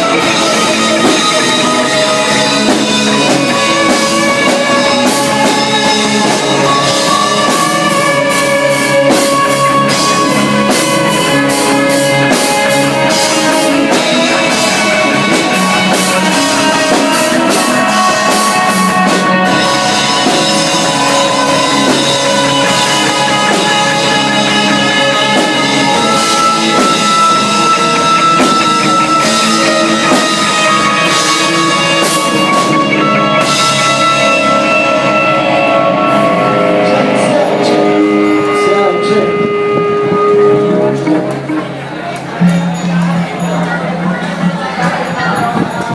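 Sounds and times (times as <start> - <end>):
rock band playing loudly: 0.0 - 45.9.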